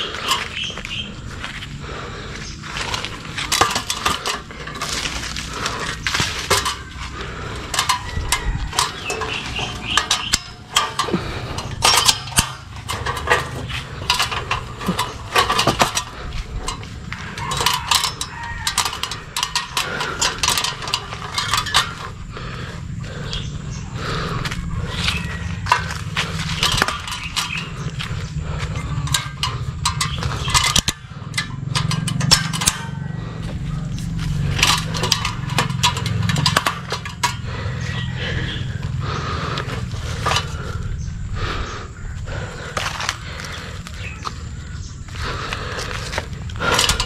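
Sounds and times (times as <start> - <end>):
hard objects clinking: 2.4 - 41.2, 42.6 - 47.0.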